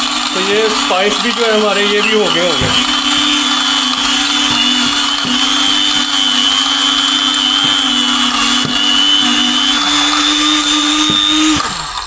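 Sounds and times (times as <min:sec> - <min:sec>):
electric grinder high whine: 0:00.0 - 0:12.0.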